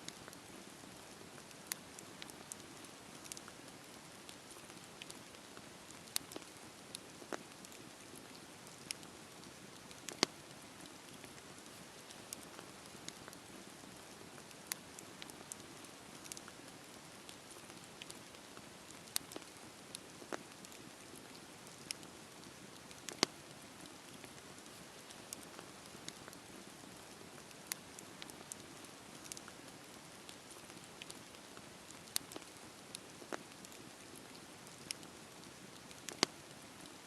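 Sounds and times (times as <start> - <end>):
burning wood crackling and popping: 0.1 - 37.0
campfire hissing: 0.1 - 37.0.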